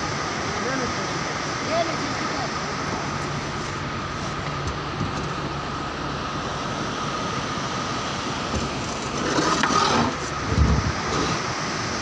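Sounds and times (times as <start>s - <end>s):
constant whine: 0.0s - 12.0s
jeep engine and road noise: 0.0s - 12.0s.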